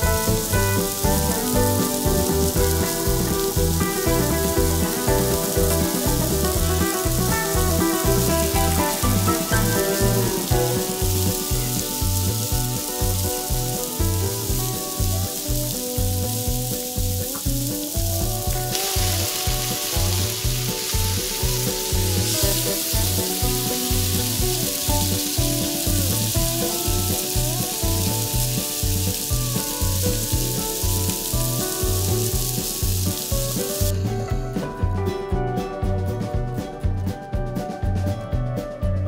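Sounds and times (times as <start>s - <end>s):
potatoes sizzling in a frying pan: 0.0s - 34.2s
music with a steady beat: 0.0s - 39.0s.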